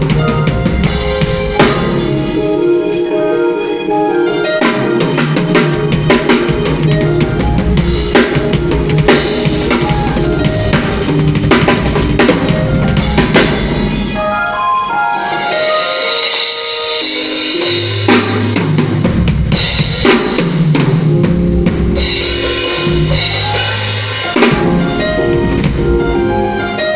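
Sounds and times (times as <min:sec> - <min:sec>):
drum kit beat: 0:00.0 - 0:26.9.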